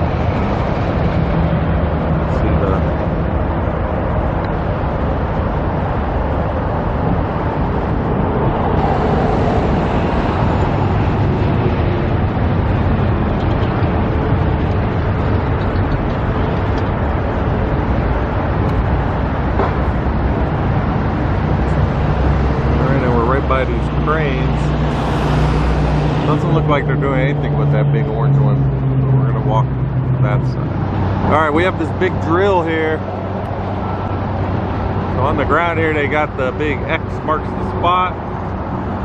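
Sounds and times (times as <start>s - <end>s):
street traffic rumble: 0.0s - 39.0s
wind buffeting microphone: 0.0s - 39.0s.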